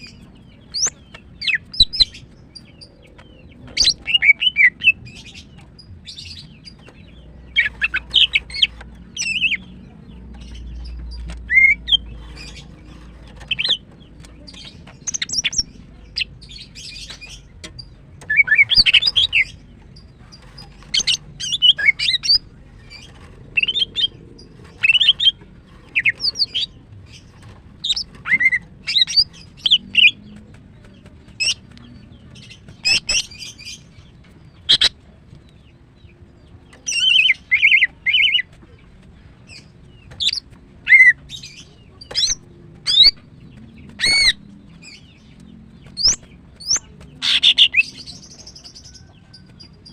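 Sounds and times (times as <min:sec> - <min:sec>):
bird chirping and chattering: 0:00.0 - 0:49.9.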